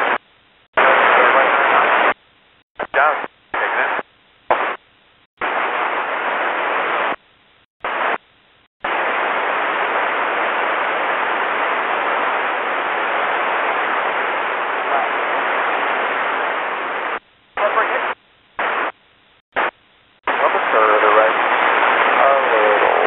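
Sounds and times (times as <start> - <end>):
radio static bursts: 0.0 - 0.2, 0.8 - 2.2, 2.8 - 4.8, 5.4 - 7.2, 7.8 - 19.0, 19.6 - 23.0
radio scanner steady hiss: 0.0 - 23.0.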